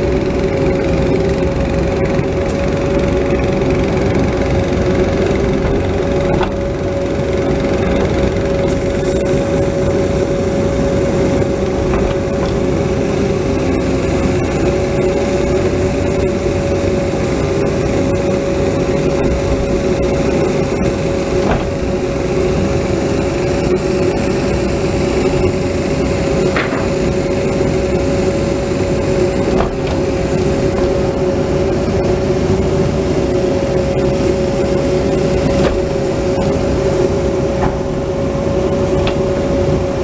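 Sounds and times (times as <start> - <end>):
diesel engine running: 0.0 - 40.0
steady whine: 0.0 - 40.0.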